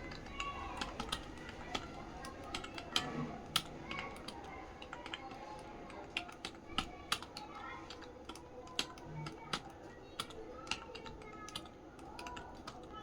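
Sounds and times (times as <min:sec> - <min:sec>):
computer keyboard typing: 0:00.0 - 0:13.0.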